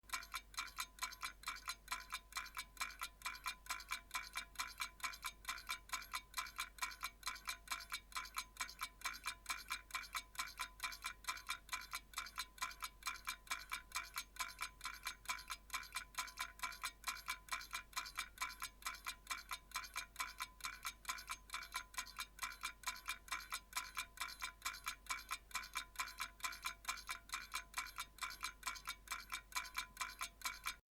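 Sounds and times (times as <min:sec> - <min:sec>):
mechanical clock ticking: 0:00.1 - 0:30.8.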